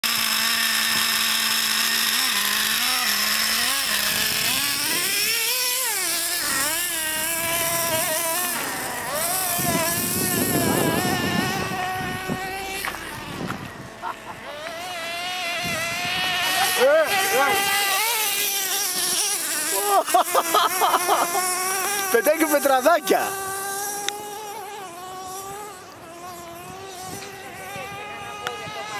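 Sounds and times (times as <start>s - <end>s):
small engine idling and revving: 0.0s - 28.9s.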